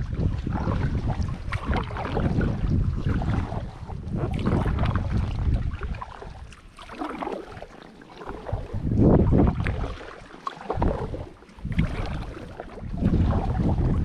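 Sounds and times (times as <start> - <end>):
paddle strokes splashing water: 0.0 - 14.0.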